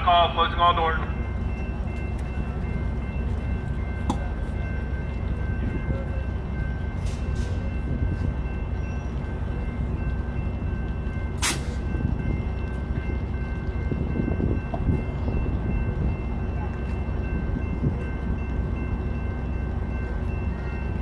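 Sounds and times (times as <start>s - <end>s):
train engine rumbling: 0.0s - 21.0s.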